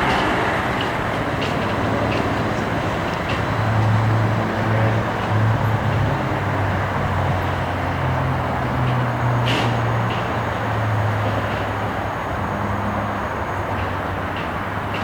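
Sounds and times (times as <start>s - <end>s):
road noise: 0.0s - 15.0s
tram electric hum: 0.0s - 15.0s.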